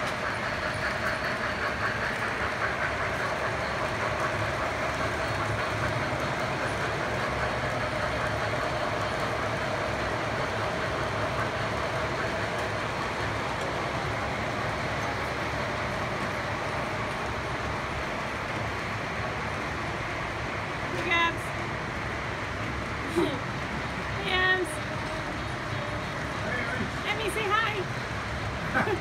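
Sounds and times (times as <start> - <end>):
model train wheels and motors: 0.0 - 29.0.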